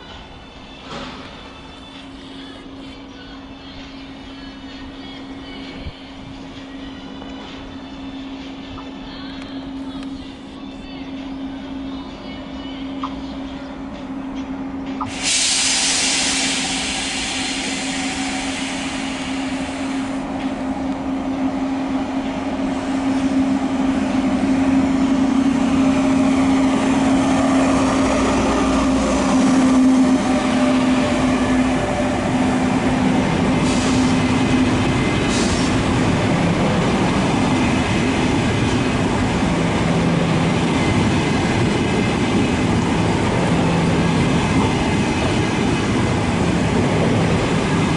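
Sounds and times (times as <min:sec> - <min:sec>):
electric train hum: 0:00.0 - 0:47.9.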